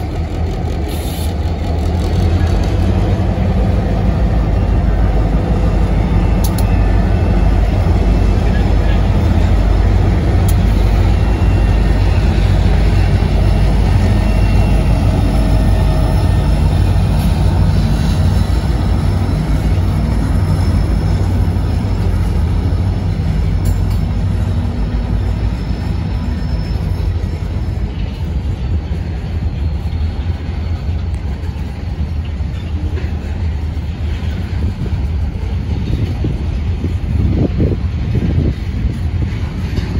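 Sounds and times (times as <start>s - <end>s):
diesel locomotive rumble: 0.0s - 39.9s
train cars rolling on rails: 0.0s - 39.9s.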